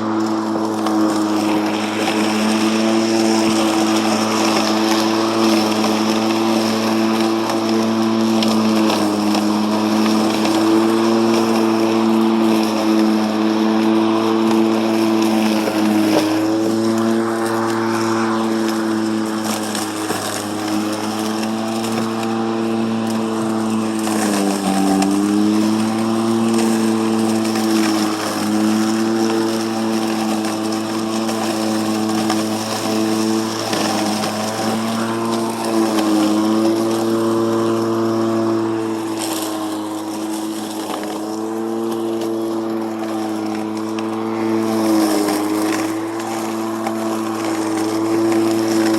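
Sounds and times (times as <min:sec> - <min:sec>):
electric lawn mower humming: 0:00.0 - 0:48.9.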